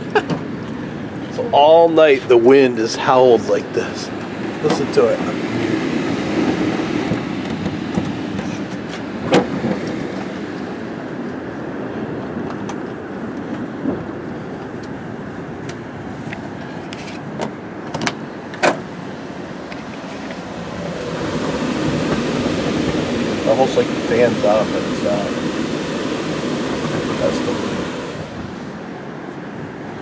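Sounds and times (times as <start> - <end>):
strong wind howling: 0.0 - 30.0.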